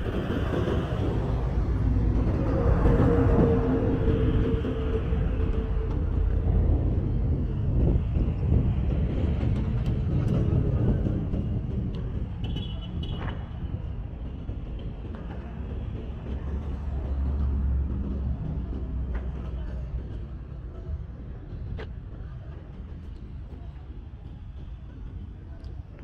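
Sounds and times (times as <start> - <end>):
vehicles passing rumble: 0.0 - 26.0.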